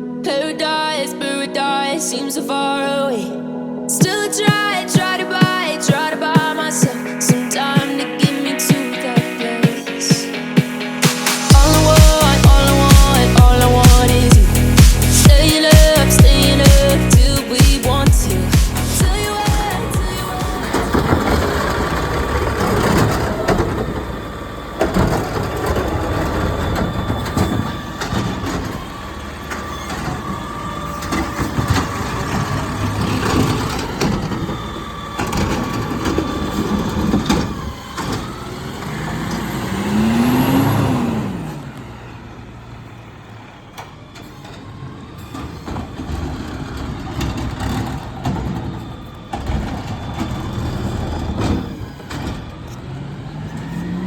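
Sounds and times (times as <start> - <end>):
garbage truck engine running: 10.5 - 54.0.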